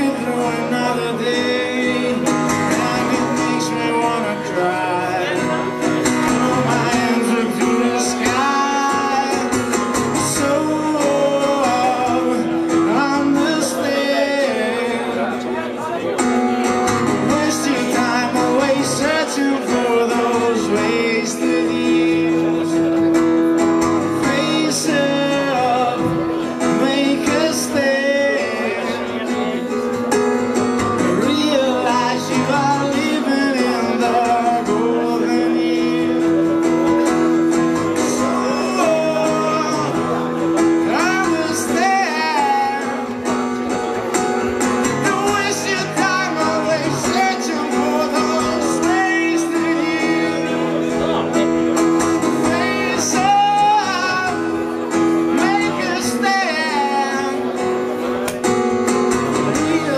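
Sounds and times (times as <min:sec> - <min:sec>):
acoustic guitar chords: 0:00.0 - 0:59.9
man singing: 0:00.0 - 0:59.9.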